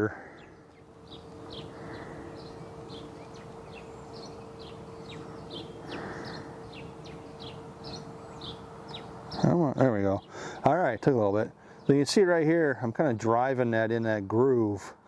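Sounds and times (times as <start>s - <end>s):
small birds chirping: 0.0s - 14.5s
steady low hum: 0.0s - 15.0s.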